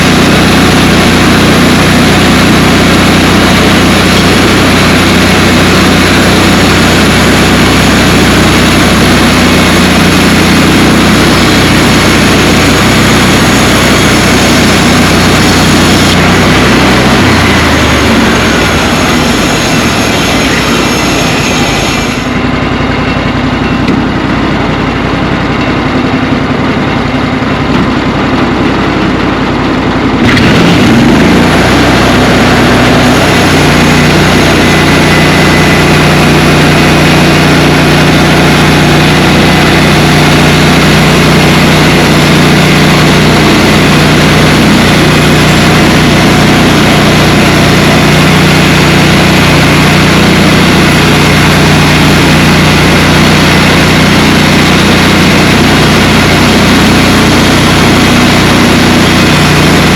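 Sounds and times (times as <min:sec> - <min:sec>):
engine running loudly: 0:00.0 - 0:59.9.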